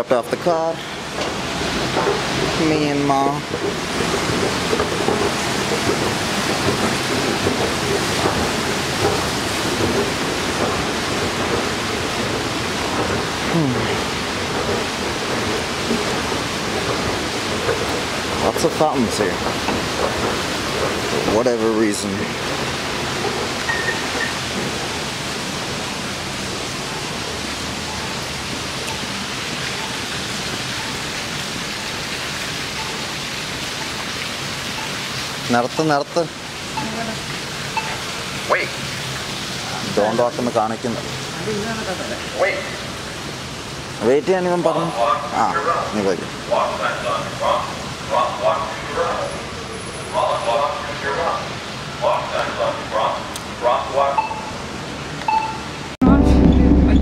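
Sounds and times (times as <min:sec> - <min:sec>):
water fountain splashing: 0:00.0 - 0:56.0.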